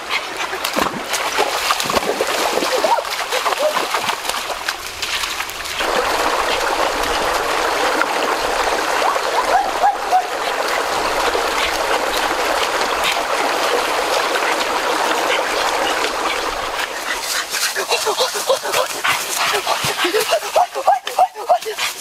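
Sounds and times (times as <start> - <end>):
feet wading through water: 0.0 - 22.0
water rushing over rocks: 0.0 - 22.0.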